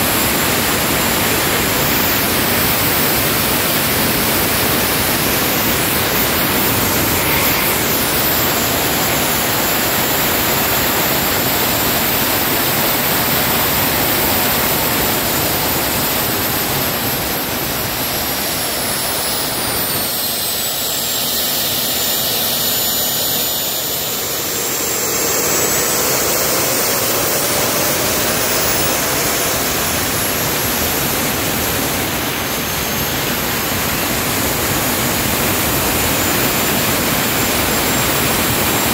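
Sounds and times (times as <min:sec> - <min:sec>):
high turbine whistle: 0:00.0 - 0:38.9
jet engine exhaust rush: 0:00.0 - 0:38.9.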